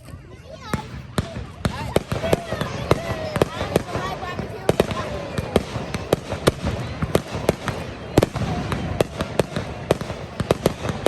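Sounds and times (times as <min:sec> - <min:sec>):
fireworks bangs: 0:00.1 - 0:11.0.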